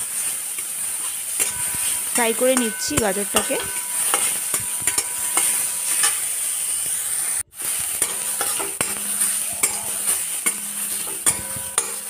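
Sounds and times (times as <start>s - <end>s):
carrot sizzling in pan: 0.0s - 12.0s
metal spatula scraping pan: 0.1s - 6.4s, 7.6s - 12.0s.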